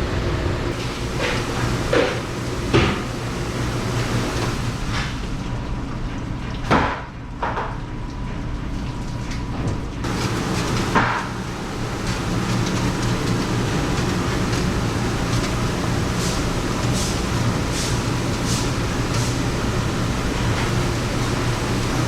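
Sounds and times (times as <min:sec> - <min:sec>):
kitchen machinery drone: 0:00.0 - 0:06.3, 0:09.3 - 0:22.0.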